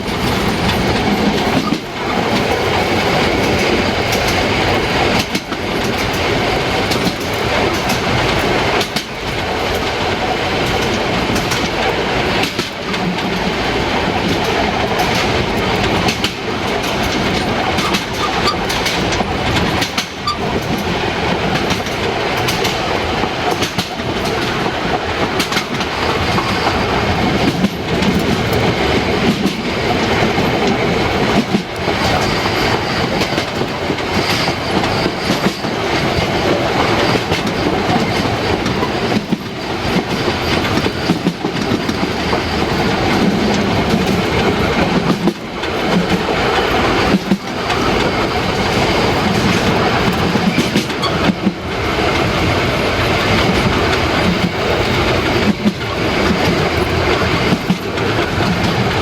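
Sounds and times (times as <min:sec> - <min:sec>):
clickety-clack of rail joints: 0:00.0 - 0:59.0
train wheels rumbling on track: 0:00.0 - 0:59.0.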